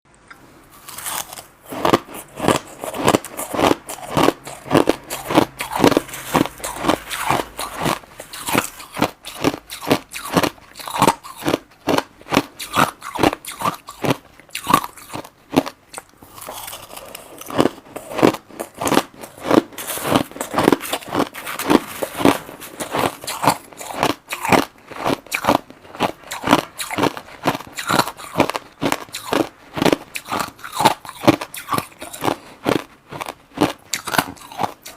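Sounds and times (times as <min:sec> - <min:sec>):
crushed ice crunching: 0:00.8 - 0:12.0, 0:16.3 - 0:34.8.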